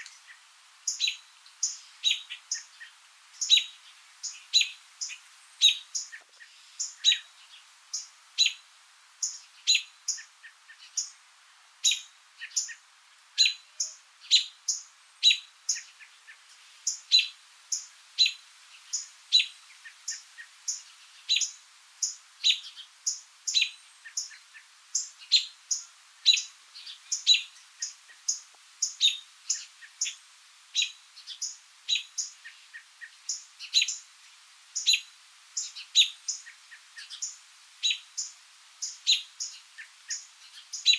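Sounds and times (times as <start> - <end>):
small bird chirping: 0.0 - 11.2, 11.8 - 40.9.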